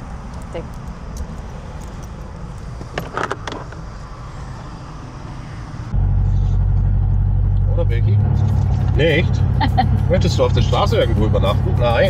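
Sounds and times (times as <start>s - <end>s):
motorway traffic rumble: 0.0s - 12.0s
road noise inside moving car: 0.0s - 12.0s.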